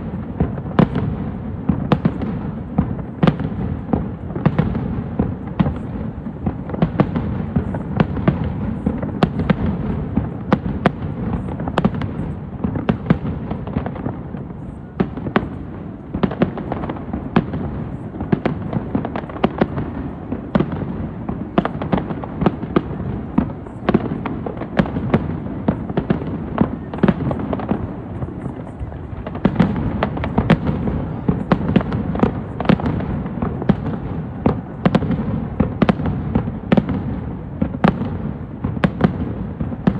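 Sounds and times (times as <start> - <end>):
fireworks bursts and crackle: 0.0 - 39.9.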